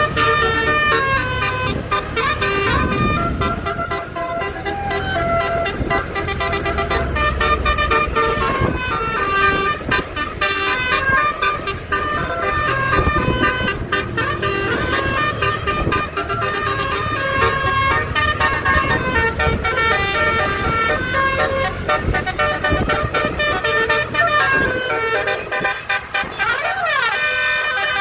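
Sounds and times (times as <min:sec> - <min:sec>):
multi-tone horn playing melody: 0:00.0 - 0:28.0
truck engine rumble: 0:00.0 - 0:28.0.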